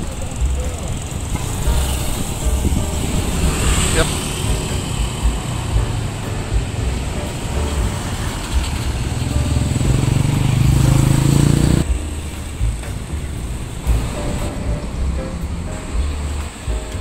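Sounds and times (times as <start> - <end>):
lorry engine passing: 0.0 - 17.0
street traffic noise: 0.0 - 17.0.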